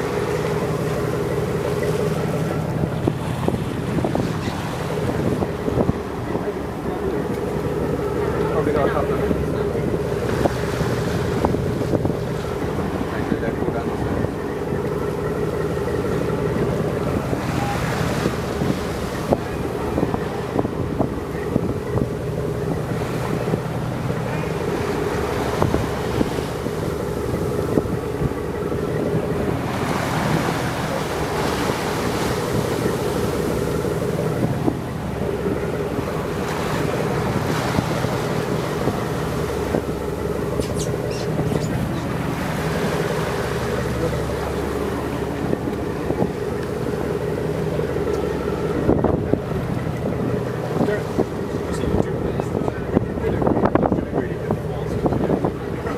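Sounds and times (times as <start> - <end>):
boat engine droning: 0.0 - 55.9
water rushing past hull: 0.0 - 55.9
wind on microphone: 0.0 - 55.9.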